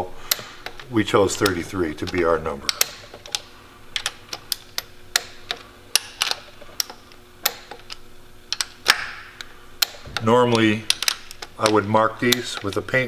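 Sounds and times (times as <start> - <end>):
torque wrench clicking: 0.0 - 13.0.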